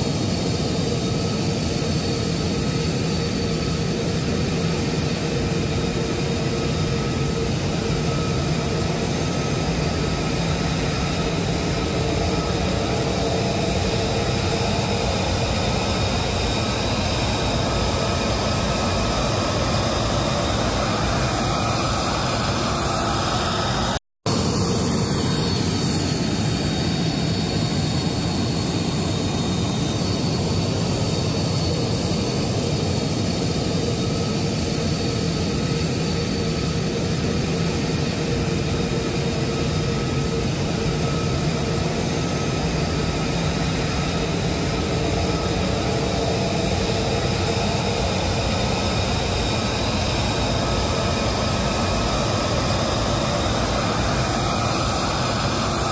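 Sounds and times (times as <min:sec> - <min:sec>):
high jet whine: 0:00.0 - 0:55.9
jet engine running: 0:00.0 - 0:55.9.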